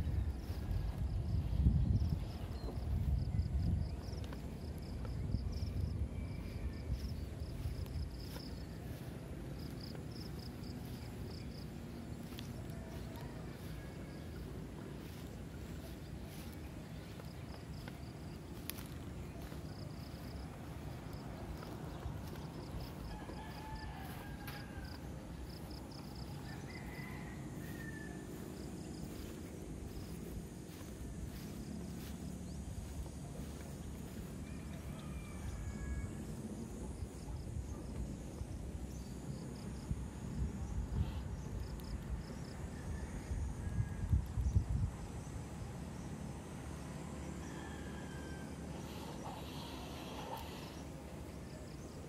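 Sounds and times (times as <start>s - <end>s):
insect chirping: 0.0s - 46.2s, 48.1s - 52.0s
steady low rumble: 0.0s - 47.4s.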